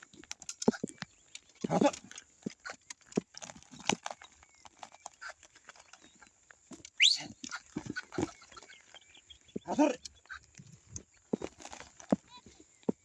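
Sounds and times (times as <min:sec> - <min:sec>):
knocks and clinks of plough: 0:00.0 - 0:13.0.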